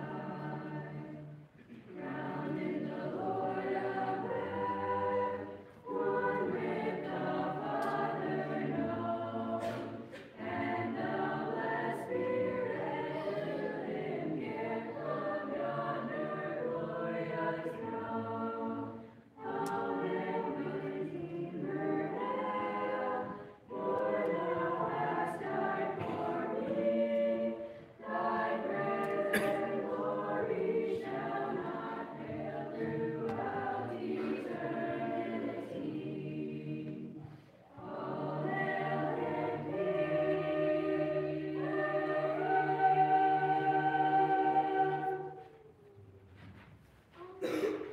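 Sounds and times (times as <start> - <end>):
children's choir singing: 0.0 - 47.9.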